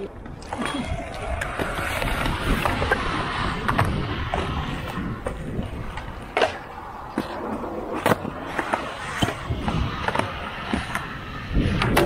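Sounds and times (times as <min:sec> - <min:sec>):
skateboard clacking: 0:00.0 - 0:12.0
skateboard wheels rolling on concrete: 0:00.0 - 0:12.0.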